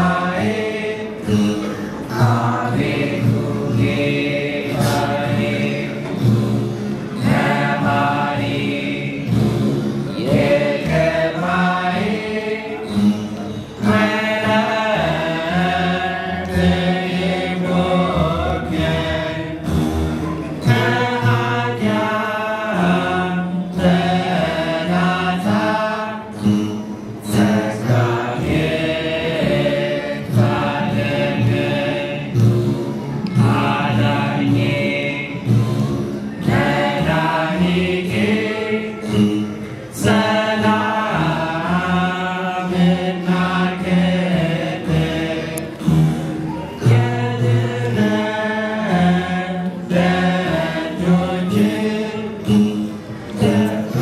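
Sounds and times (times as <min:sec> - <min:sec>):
men chanting a hymn: 0:00.0 - 0:19.8, 0:20.6 - 0:26.6, 0:27.2 - 0:32.7, 0:33.3 - 0:54.0.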